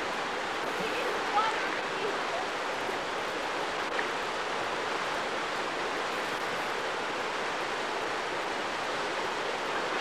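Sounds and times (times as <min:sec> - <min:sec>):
river water flowing over rocks: 0:00.0 - 0:10.0.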